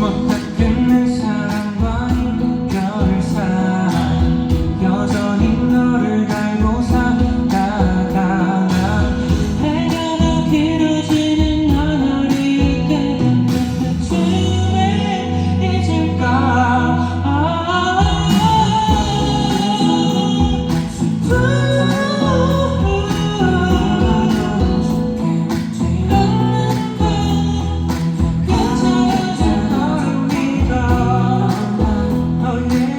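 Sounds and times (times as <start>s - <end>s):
steady drum beat: 0.0s - 14.6s, 18.0s - 32.9s
guitar: 0.0s - 32.9s
male singer: 0.0s - 32.9s.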